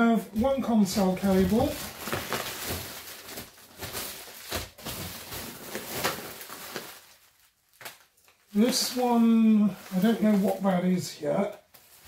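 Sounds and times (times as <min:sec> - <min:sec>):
bubble wrap crinkling: 0:00.4 - 0:12.0.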